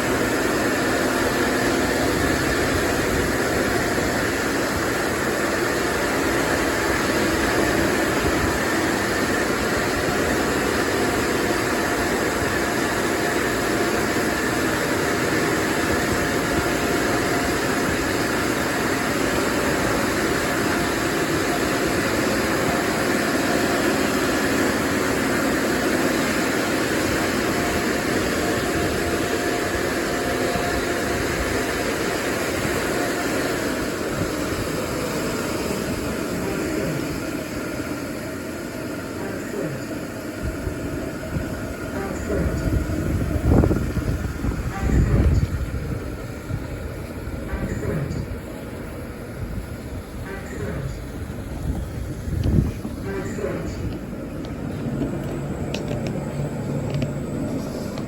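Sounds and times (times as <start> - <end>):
car wash dryer blowers: 0.0 - 58.0.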